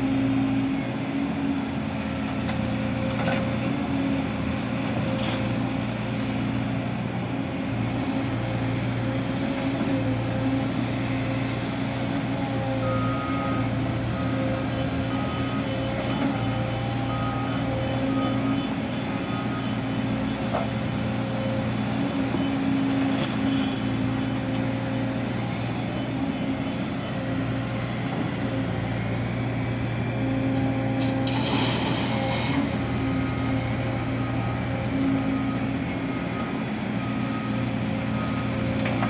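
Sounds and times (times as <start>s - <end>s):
diesel machinery engine droning: 0.0s - 39.0s.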